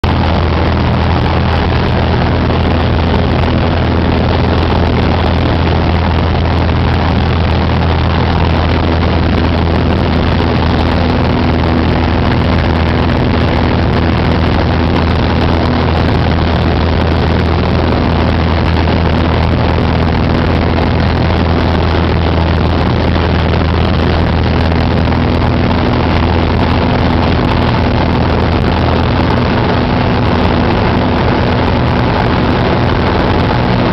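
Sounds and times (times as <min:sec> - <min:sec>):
propeller plane engine drone: 0:00.0 - 0:33.9.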